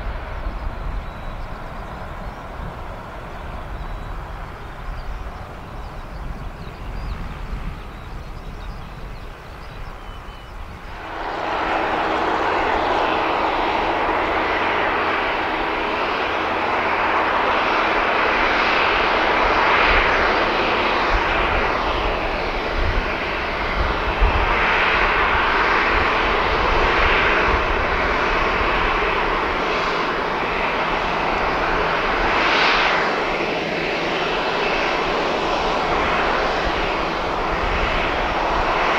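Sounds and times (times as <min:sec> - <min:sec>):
constant low hum: 0:00.0 - 0:38.9
jet engines running: 0:00.0 - 0:38.9.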